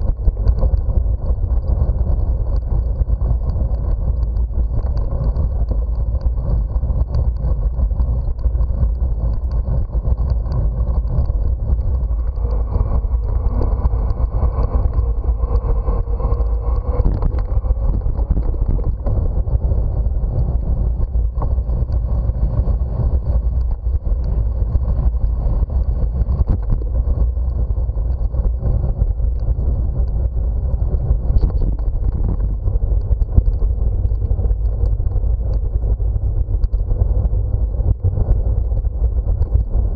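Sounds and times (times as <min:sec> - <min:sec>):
faint hum: 0:00.0 - 0:39.9
wind buffeting microphone: 0:00.0 - 0:39.9.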